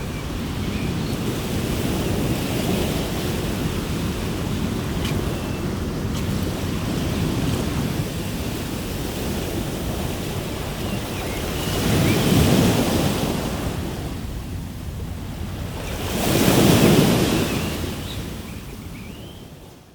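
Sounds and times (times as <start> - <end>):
waves breaking on shore: 0.0 - 19.9.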